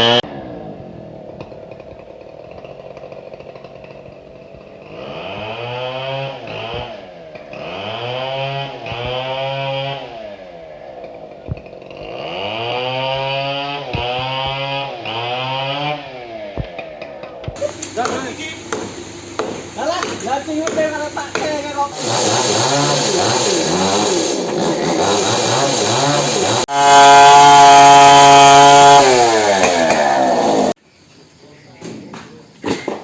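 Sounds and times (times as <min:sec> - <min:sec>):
chainsaw engine revving: 0:00.0 - 0:30.8.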